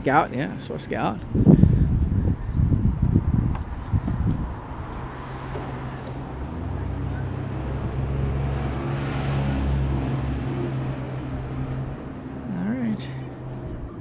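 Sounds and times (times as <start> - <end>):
engine humming low: 0.0 - 14.0.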